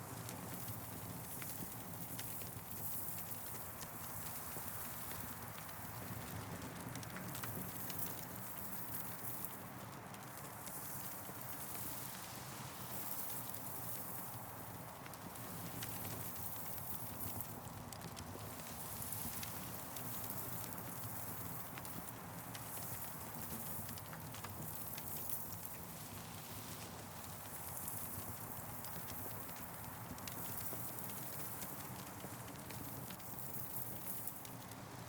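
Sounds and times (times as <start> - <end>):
campfire crackling and popping: 0.1 - 35.0.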